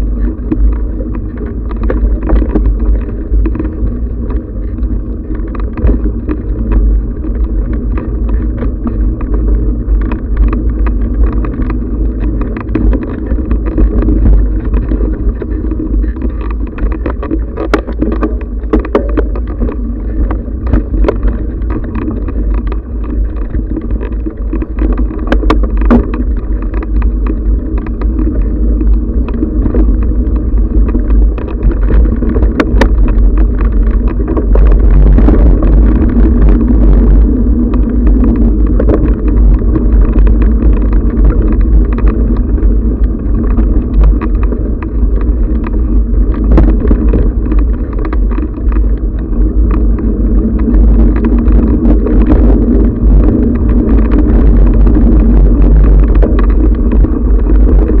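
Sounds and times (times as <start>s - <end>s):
bike knocks and rattles: 0.0s - 58.0s
bike riding rumble: 0.0s - 58.0s.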